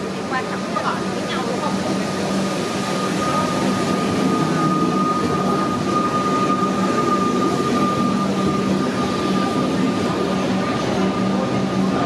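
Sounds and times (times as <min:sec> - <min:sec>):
high train whine: 0:00.0 - 0:12.0.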